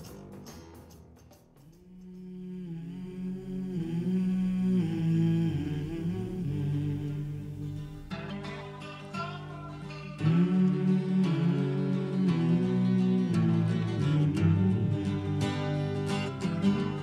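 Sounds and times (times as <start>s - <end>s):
acoustic guitar strumming: 0.0s - 17.0s
wordless vocal humming: 1.6s - 17.0s.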